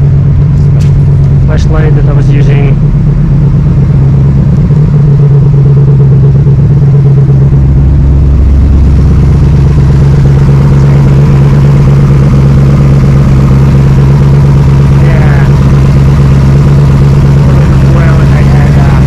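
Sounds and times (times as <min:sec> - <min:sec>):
car engine idling loudly: 0:00.0 - 0:19.0.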